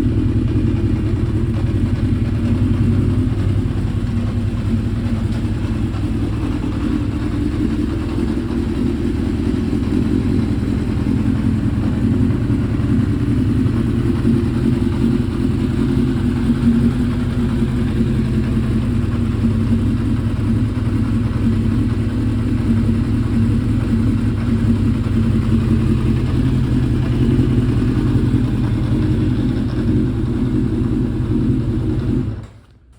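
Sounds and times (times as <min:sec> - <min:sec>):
motorcycle engine idling: 0:00.0 - 0:32.9.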